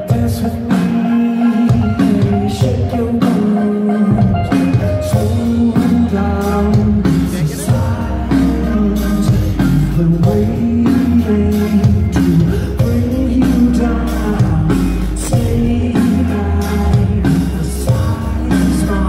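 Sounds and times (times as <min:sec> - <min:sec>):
deep bass notes: 0:00.0 - 0:19.0
person singing: 0:00.0 - 0:19.0
rock band playing: 0:00.0 - 0:19.0.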